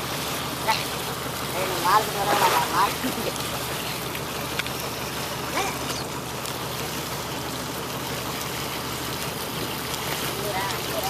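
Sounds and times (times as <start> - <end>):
water rushing and trickling: 0.0 - 11.0.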